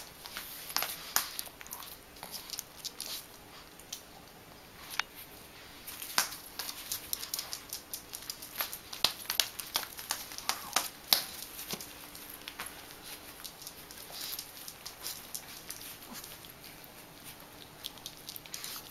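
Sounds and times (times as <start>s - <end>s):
dog feet clicking on hard floor: 0.0s - 4.0s, 5.8s - 18.9s.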